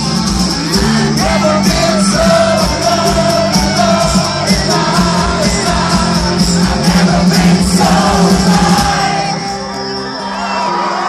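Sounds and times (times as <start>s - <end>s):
driving kick drum: 0.0s - 9.3s
crowd yelling: 0.0s - 11.0s
electric guitar: 0.0s - 11.0s.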